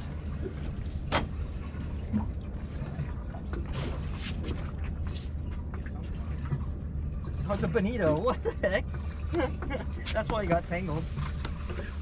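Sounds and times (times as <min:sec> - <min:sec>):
short water splashes: 0:00.0 - 0:12.0
steady low rumble: 0:00.0 - 0:12.0
water lapping against boat hull: 0:00.0 - 0:12.0.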